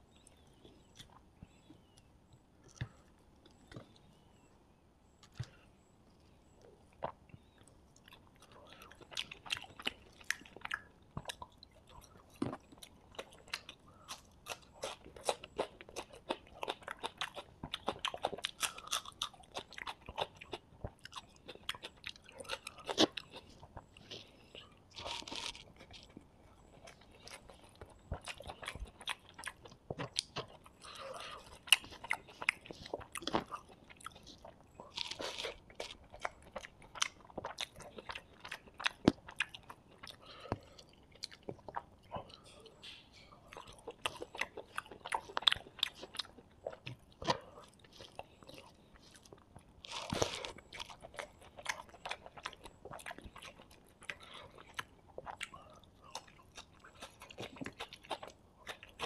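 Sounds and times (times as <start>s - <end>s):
chewing and biting food: 6.5s - 42.6s, 43.4s - 59.0s.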